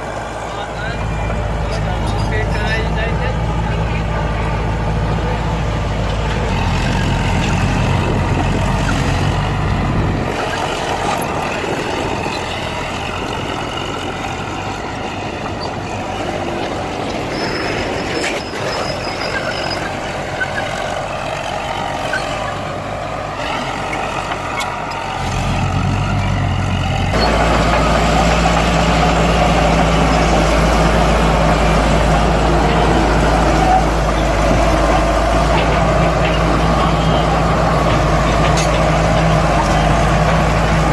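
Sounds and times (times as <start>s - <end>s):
bulldozer diesel engines droning: 0.0s - 40.9s.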